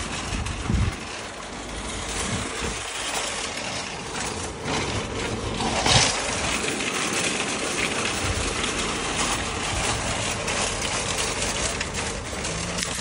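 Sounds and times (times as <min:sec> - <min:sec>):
loud cart clank: 0:00.0 - 0:13.0
shopping carts rattling: 0:00.0 - 0:13.0.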